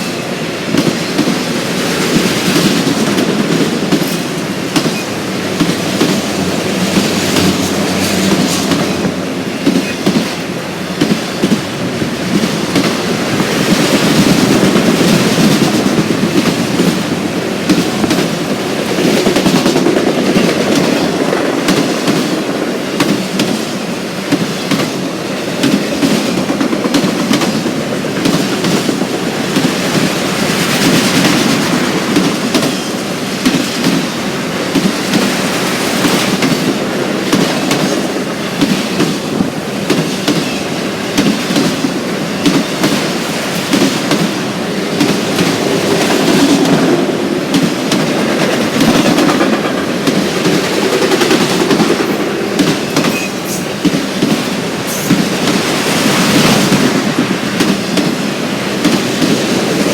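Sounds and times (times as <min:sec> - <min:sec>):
freight train rumbling past: 0:00.0 - 0:59.9
wheels clicking over rail joints: 0:02.1 - 0:23.6, 0:25.6 - 0:59.9.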